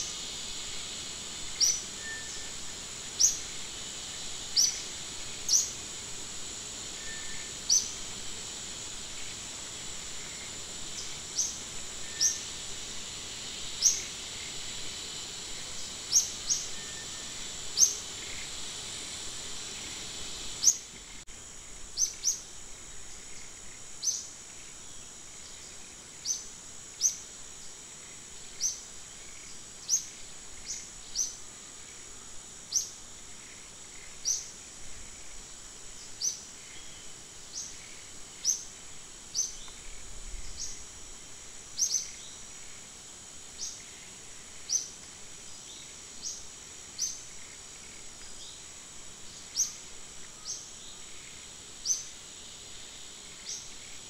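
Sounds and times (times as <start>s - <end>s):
high insect hum: 0.0s - 54.0s.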